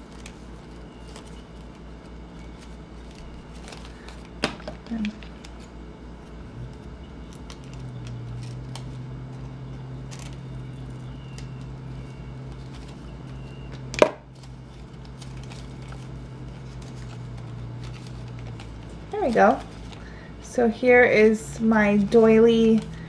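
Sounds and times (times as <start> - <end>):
low steady hum: 0.0 - 23.0
paper handling: 0.0 - 23.0.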